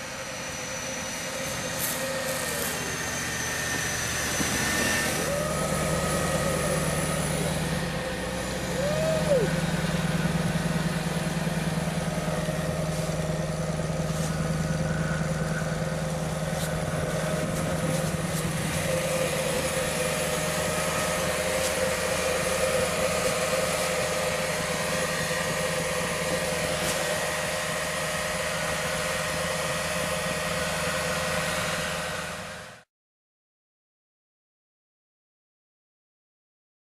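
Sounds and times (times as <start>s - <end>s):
engine running at low revs: 0.0s - 32.9s.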